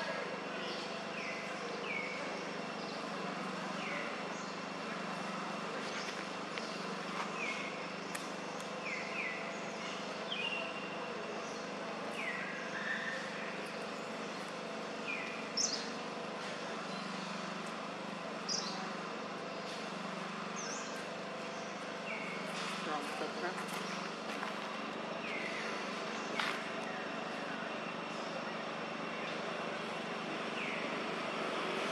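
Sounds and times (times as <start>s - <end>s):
outdoor background hum: 0.0s - 31.9s.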